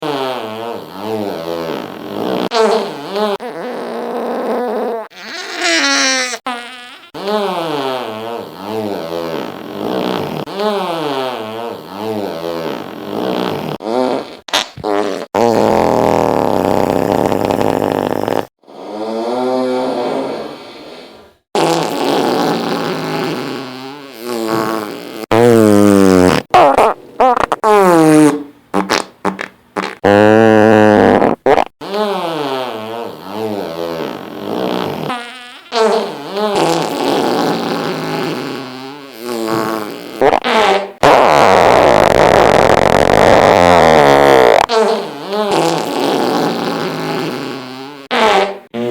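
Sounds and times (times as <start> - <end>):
fart sounds: 0.0 - 48.9.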